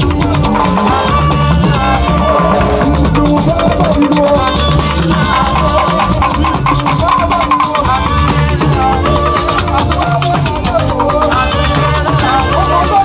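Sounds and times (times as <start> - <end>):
drums: 0.0 - 13.0
live band music: 0.0 - 13.0
shakers: 0.0 - 13.0
strong bass line: 0.0 - 13.0.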